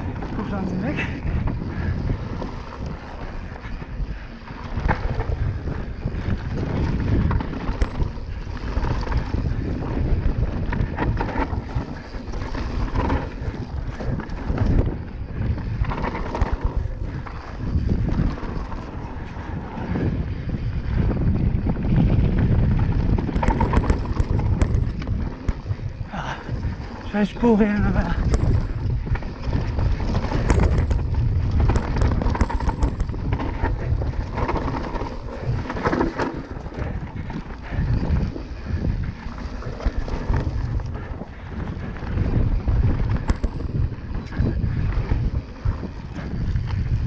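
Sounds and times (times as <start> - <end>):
bike rattling over bumps: 0.0 - 47.0
tyres rumbling on dirt: 0.0 - 47.0
wind buffeting microphone: 0.0 - 47.0.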